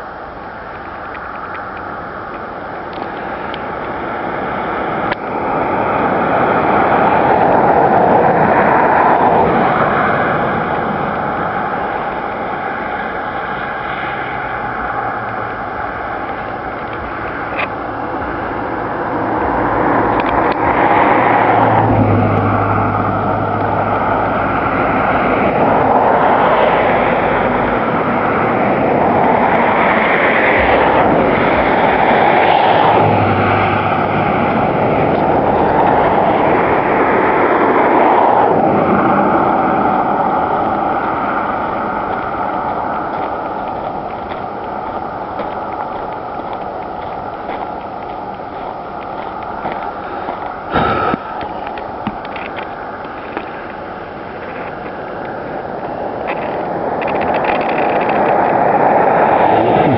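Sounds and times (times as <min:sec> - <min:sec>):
vehicle noise: 0:00.0 - 0:59.9.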